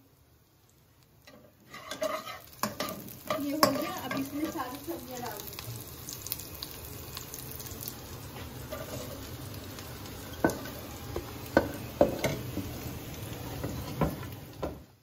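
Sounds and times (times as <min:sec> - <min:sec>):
frying sizzle in wok: 0:00.0 - 0:15.0.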